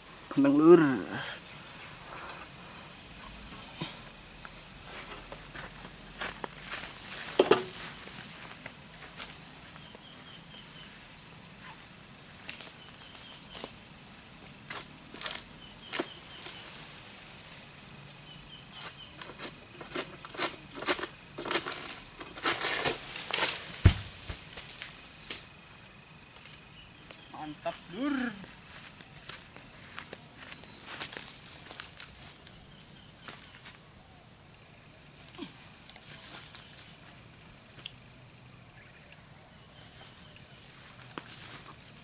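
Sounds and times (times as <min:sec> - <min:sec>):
insect chorus: 0:00.0 - 0:42.0.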